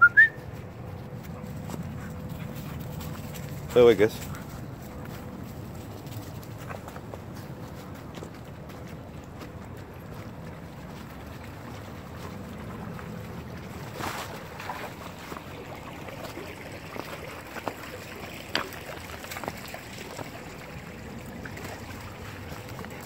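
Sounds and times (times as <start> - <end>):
low rush of outdoor noise: 0.0 - 23.0
footsteps crunching on leaves and stones: 0.5 - 23.0.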